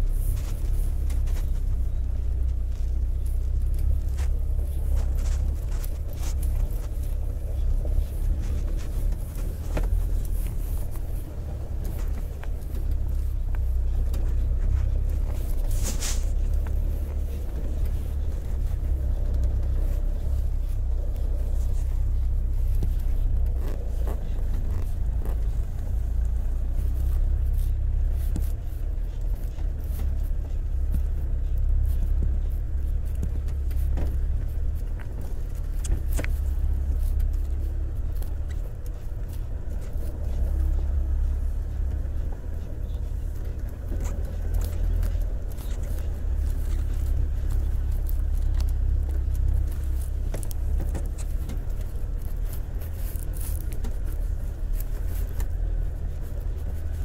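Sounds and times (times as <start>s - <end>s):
engine and road drone: 0.0s - 57.0s.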